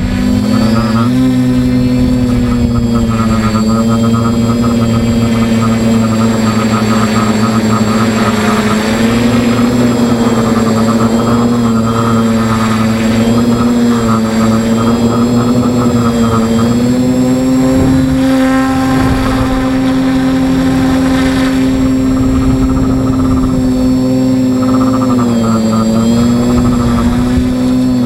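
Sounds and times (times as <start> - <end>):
drone motors buzzing hum: 0.0 - 28.0.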